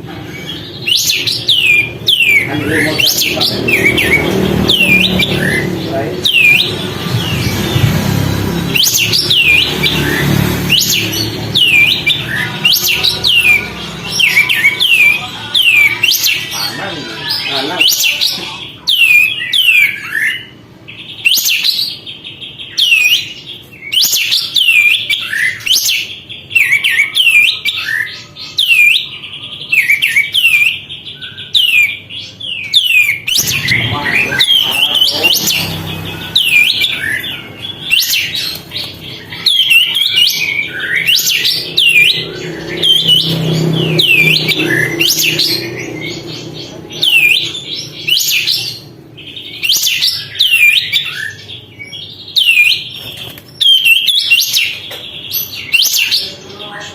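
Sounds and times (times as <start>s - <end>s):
bulbul singing: 0.0s - 56.9s.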